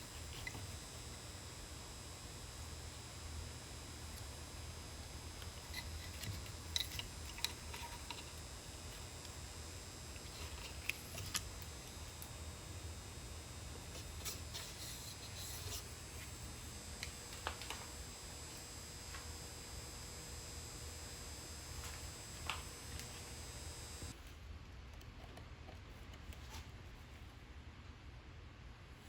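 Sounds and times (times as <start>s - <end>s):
low steady hum and hiss: 0.0s - 29.0s.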